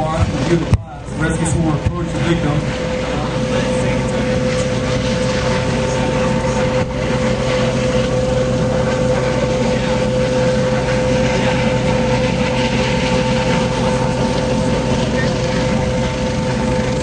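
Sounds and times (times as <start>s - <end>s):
helicopter rotor and turbine rumble: 0.0s - 17.0s
turbine whine: 0.0s - 17.0s.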